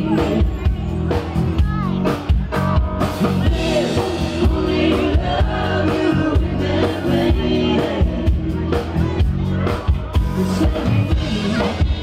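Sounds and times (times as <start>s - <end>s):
person singing lead vocal: 0.0s - 1.0s, 3.2s - 12.0s
drums: 0.0s - 12.0s
electric bass: 0.0s - 12.0s
keyboards: 0.0s - 12.0s
live band playing: 0.0s - 12.0s.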